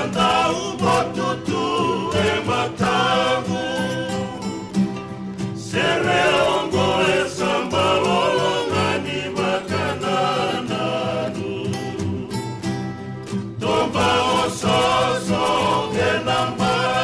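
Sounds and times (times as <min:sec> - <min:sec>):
men singing in harmony: 0:00.0 - 0:04.9, 0:05.6 - 0:12.8, 0:13.5 - 0:17.0
strummed acoustic guitar: 0:00.0 - 0:17.0
ukulele strumming: 0:00.0 - 0:17.0.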